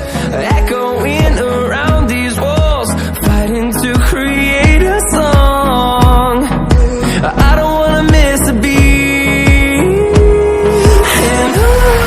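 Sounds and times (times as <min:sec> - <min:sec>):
pop music with steady beat: 0:00.0 - 0:12.0.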